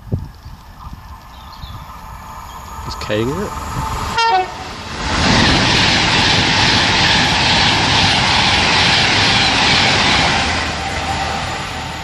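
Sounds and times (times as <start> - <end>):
electric train passing at speed: 0.0 - 12.0.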